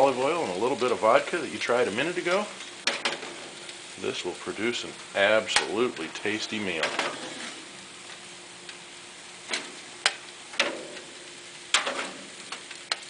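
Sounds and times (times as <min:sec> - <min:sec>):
faint food sizzle: 0:00.0 - 0:13.0.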